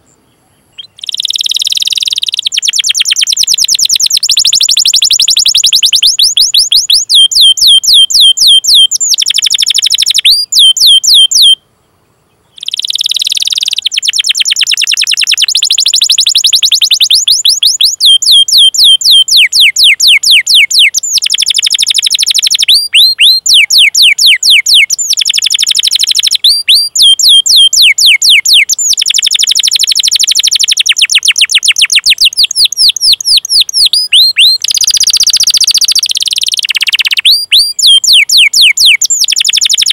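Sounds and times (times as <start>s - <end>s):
canary singing high chirps: 0.0s - 11.6s, 12.3s - 39.9s.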